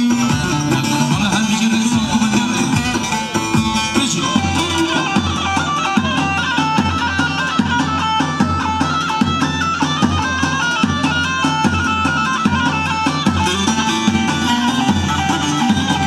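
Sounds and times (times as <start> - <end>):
drum beat: 0.0 - 16.0
reedy dance melody: 0.0 - 16.0.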